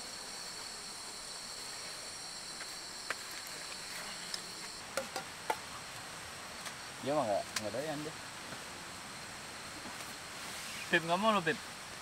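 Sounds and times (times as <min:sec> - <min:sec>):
insects singing: 0:00.0 - 0:09.8.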